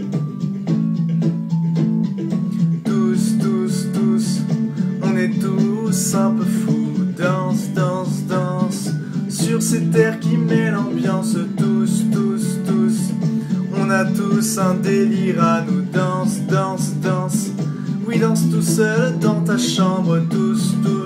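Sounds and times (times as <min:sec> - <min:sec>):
musical backing: 0:00.0 - 0:21.0
man singing: 0:02.5 - 0:21.0.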